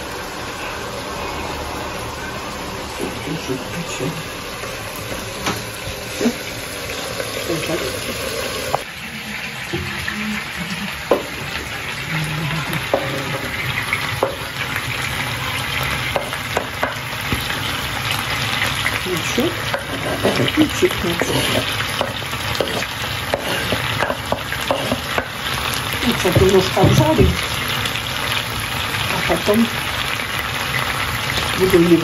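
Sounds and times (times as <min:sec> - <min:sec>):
food sizzling in a frying pan: 0:00.0 - 0:32.0.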